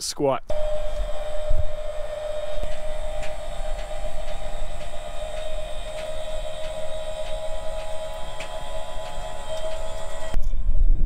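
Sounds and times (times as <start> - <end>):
motor whine of jacks: 0.5 - 10.4.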